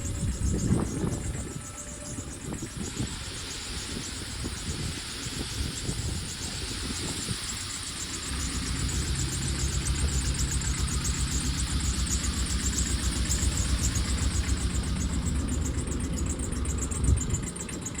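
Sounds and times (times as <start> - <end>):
small truck engine running: 0.0 - 18.0.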